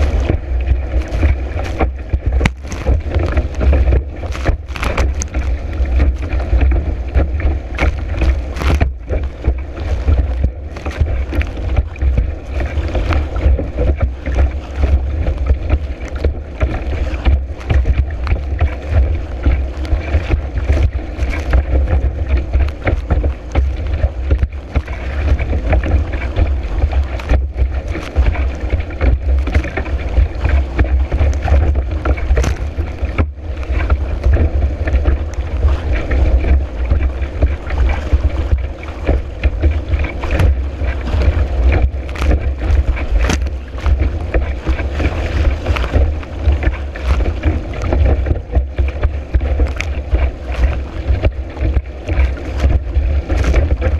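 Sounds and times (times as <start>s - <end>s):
board slapping through water: 0.0s - 53.9s
water splashes: 0.0s - 53.9s
wind buffeting microphone: 0.0s - 53.9s.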